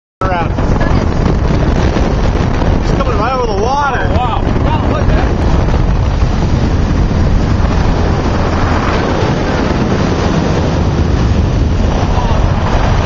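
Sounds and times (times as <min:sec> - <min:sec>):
motorboat engine at speed: 0:00.2 - 0:13.0
wind on microphone: 0:00.2 - 0:13.0.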